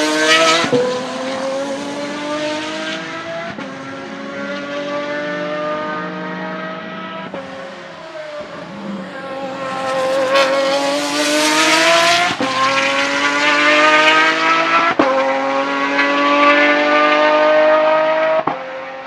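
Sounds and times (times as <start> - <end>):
sports car engine at full throttle: 0.0 - 19.0.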